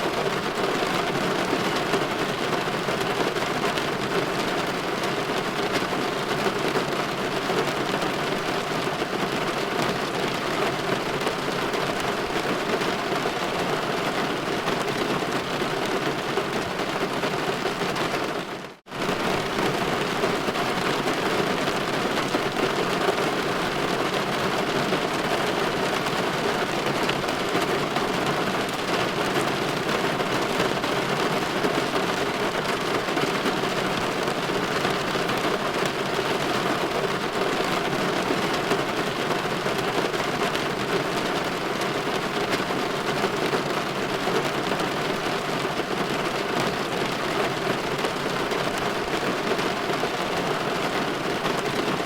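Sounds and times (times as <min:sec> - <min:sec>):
rain pattering on window glass: 0:00.2 - 0:52.0.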